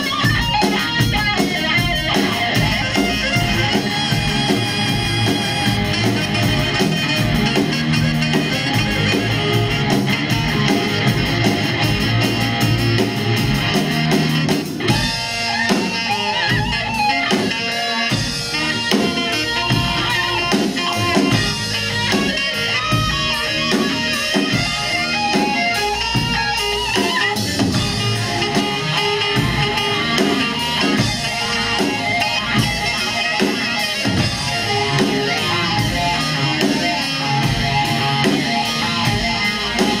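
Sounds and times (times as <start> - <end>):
drum kit: 0.0 - 40.0
electric guitar: 0.0 - 40.0.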